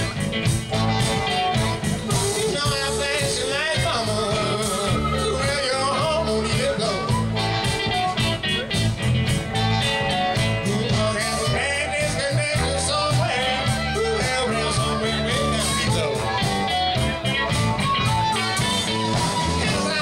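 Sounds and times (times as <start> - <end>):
drum kit beat: 0.0 - 20.0
harmonica wailing: 0.0 - 20.0.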